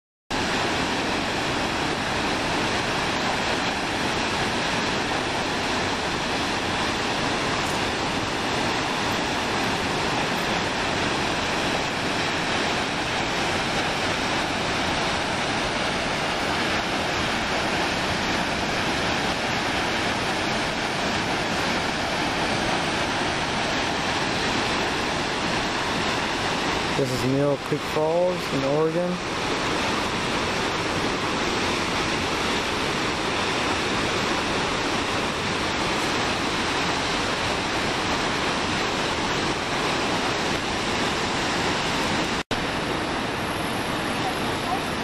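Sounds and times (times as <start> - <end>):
waterfall rushing: 0.3 - 45.0.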